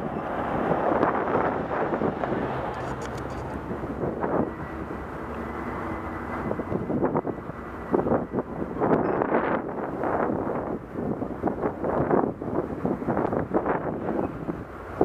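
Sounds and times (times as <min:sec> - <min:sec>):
engine drone: 0:00.0 - 0:15.0
wind on microphone: 0:00.0 - 0:15.0.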